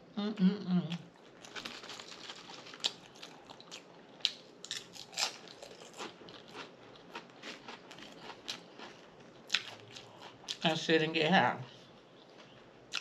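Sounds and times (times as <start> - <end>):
chewing crisp potato chips: 0.9 - 10.7, 12.1 - 13.0.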